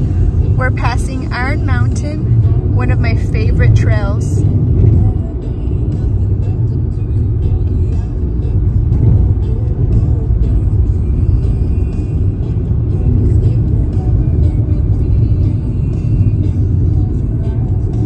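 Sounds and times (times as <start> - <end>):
background music: 0.0 - 18.0
car road rumble: 0.0 - 18.0.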